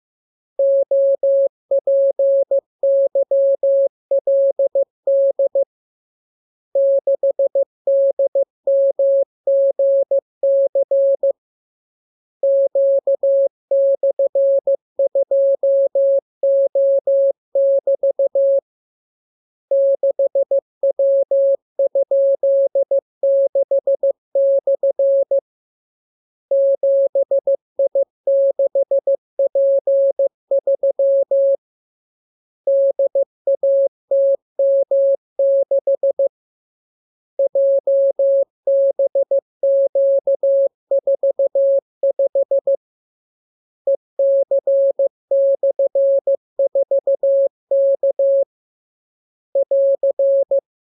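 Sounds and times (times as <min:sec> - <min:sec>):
morse code beeps: 0:00.6 - 0:05.6, 0:06.8 - 0:11.4, 0:12.4 - 0:18.6, 0:19.7 - 0:25.4, 0:26.5 - 0:31.6, 0:32.7 - 0:36.3, 0:37.4 - 0:42.8, 0:43.9 - 0:48.4, 0:49.6 - 0:50.6.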